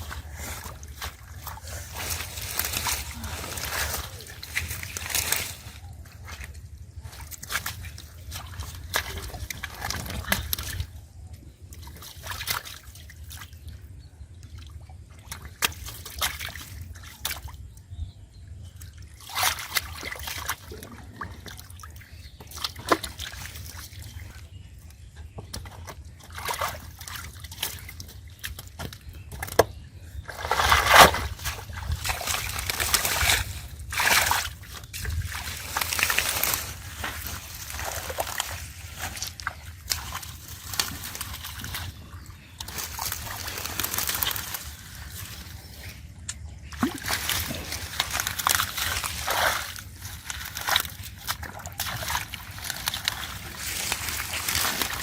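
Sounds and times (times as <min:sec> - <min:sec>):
river water sloshing and splashing: 0:00.0 - 0:13.9, 0:14.5 - 0:17.7, 0:18.7 - 0:25.0, 0:25.6 - 0:55.0.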